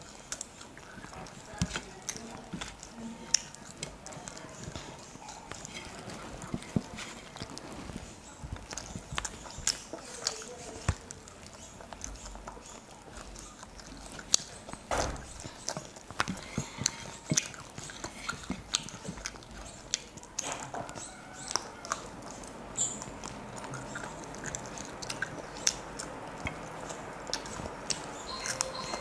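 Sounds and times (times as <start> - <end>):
chewing: 0.0 - 29.0
fingers kneading rice on plate: 0.0 - 29.0.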